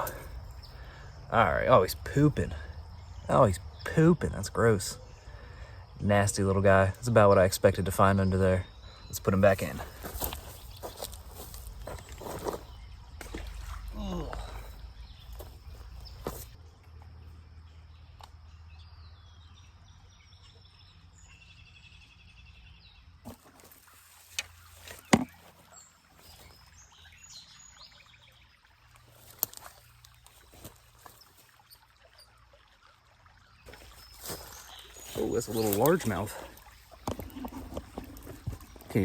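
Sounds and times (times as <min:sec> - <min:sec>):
low outdoor background noise: 0:00.0 - 0:39.0
small birds chirping: 0:00.0 - 0:39.0.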